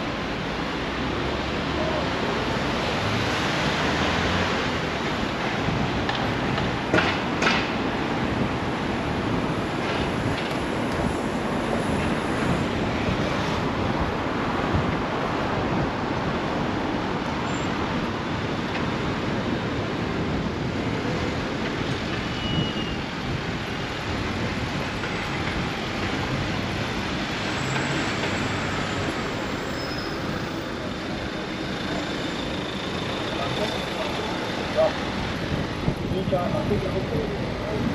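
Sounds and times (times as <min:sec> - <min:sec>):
steady traffic and road noise: 0:00.0 - 0:37.9.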